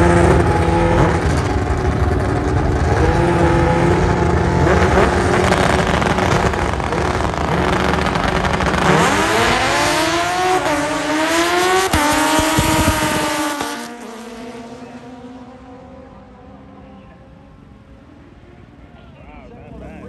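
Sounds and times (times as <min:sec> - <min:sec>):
race car accelerating: 0:00.0 - 0:20.0.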